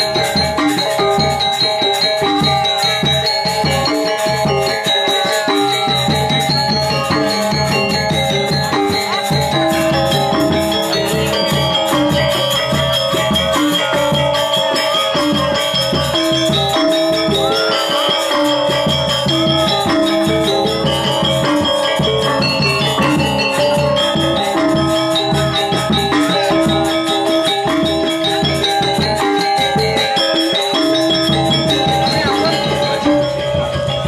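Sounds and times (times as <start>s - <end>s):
gamelan music: 0.0s - 34.0s.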